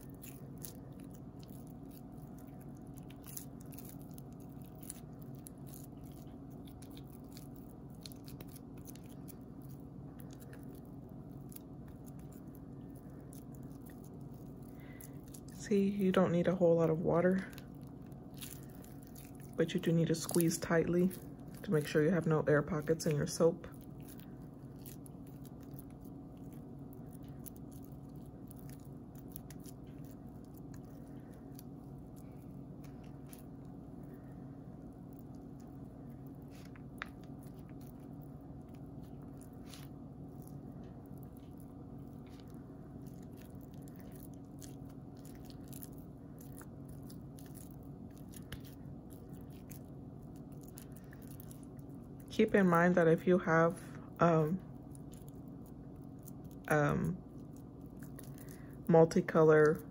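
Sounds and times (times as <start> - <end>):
soap shavings crunching: 0.0 - 59.9
steady low hum: 0.0 - 59.9.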